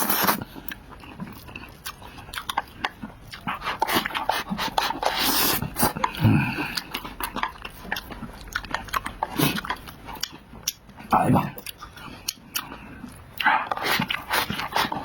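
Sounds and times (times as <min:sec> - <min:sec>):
chewing and lip smacking: 0:00.4 - 0:15.0.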